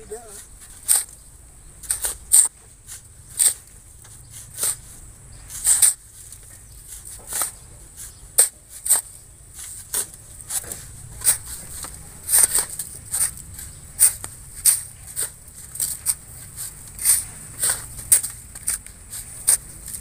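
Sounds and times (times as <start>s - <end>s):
shovels scraping sand and gravel: 0.0s - 20.0s.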